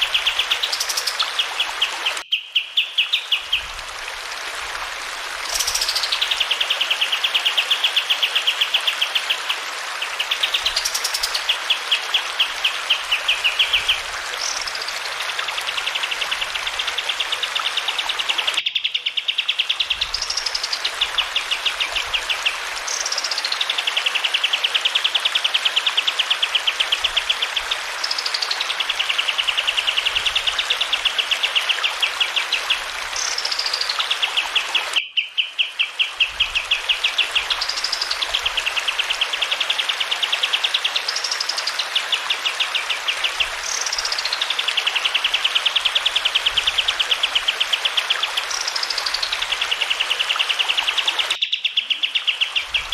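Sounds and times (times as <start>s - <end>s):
flowing water: 0.0s - 52.9s.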